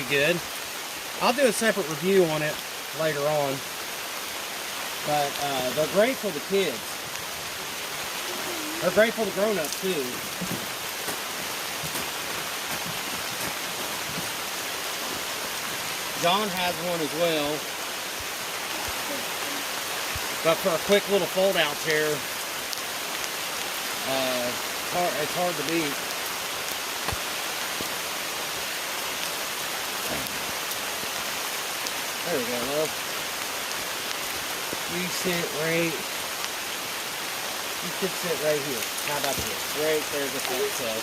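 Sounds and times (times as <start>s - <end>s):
heavy rain hissing: 0.0s - 41.0s
rain drop ticks: 4.9s - 41.0s.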